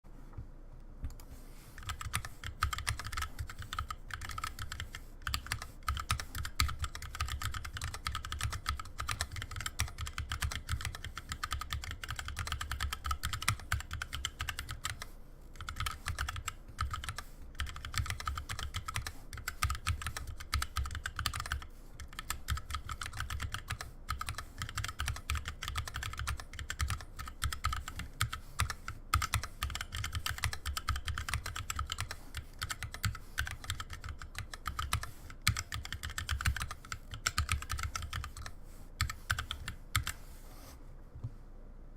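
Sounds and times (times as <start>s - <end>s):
fast typing on mechanical keyboard: 1.8s - 40.2s.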